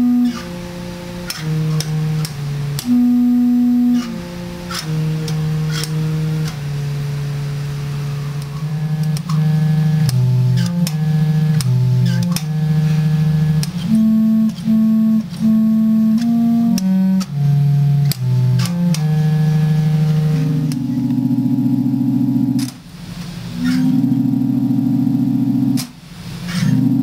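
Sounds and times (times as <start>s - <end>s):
organ playing low held notes: 0.0s - 22.7s.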